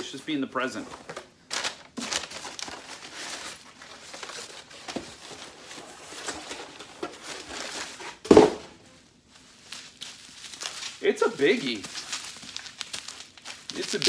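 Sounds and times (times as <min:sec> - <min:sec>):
packing paper rustling: 0:00.8 - 0:08.2, 0:09.2 - 0:14.0.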